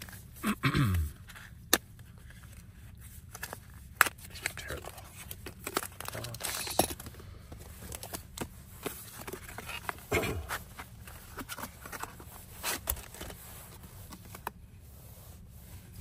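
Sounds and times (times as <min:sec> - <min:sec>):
packaging rustle: 0:01.3 - 0:14.5.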